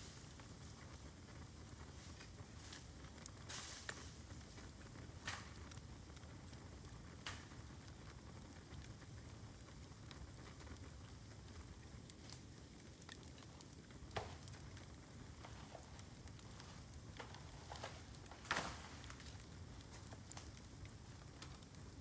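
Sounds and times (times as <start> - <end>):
bamboo bonfire crackling and hissing: 0.0 - 22.0
sharp pops from fire: 0.0 - 22.0.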